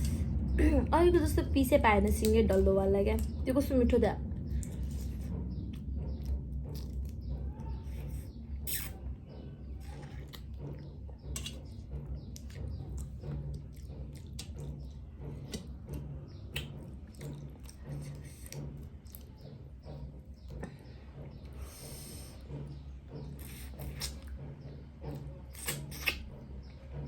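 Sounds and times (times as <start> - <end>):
chewing and sucking crab: 4.4 - 26.4.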